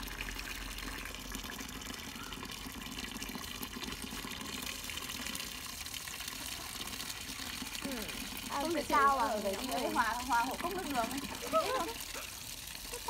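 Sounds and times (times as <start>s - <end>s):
tap water pouring into basin: 0.0s - 13.0s.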